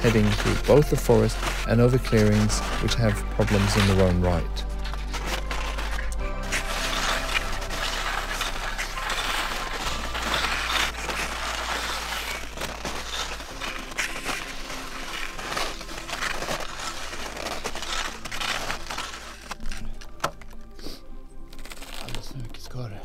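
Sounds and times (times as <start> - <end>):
skis scraping through snow: 0.0 - 20.0
low music bed: 0.0 - 23.0.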